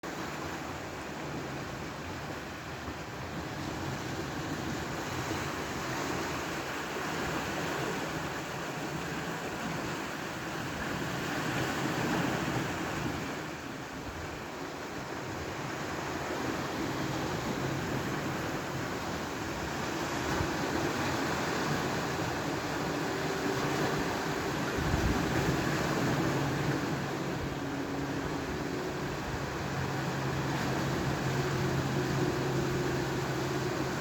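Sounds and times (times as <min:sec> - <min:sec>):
sea surf: 0:00.0 - 0:34.0
wind: 0:00.0 - 0:34.0.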